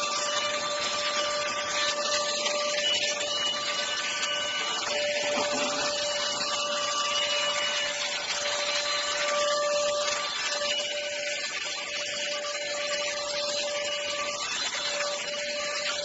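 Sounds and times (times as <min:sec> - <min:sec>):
handheld vacuum cleaner running: 0:00.0 - 0:16.0.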